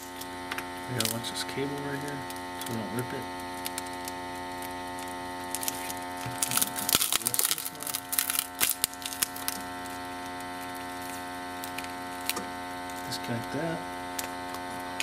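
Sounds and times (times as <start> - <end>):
steady electrical hum: 0.0 - 15.0
adhesive crackling and tearing: 0.9 - 13.1.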